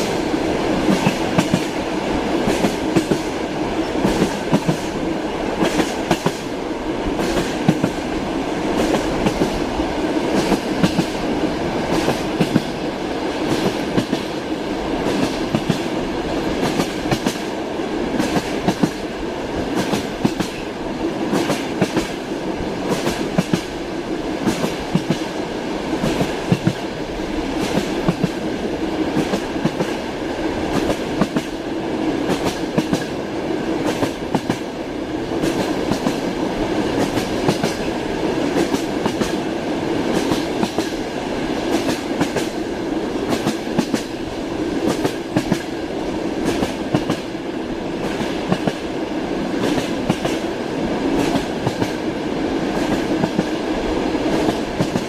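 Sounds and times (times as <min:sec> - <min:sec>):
train rumble: 0:00.0 - 0:55.0
train wheels clacking on rails: 0:00.0 - 0:55.0.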